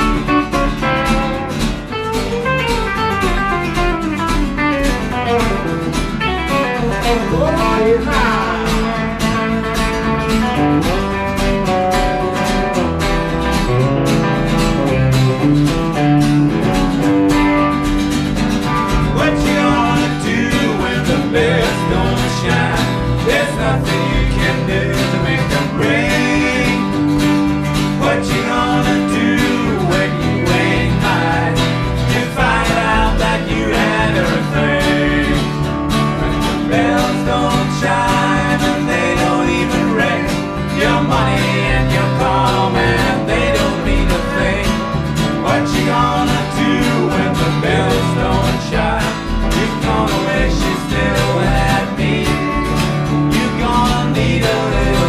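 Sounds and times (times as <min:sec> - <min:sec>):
blues band playing live: 0:00.0 - 0:55.0.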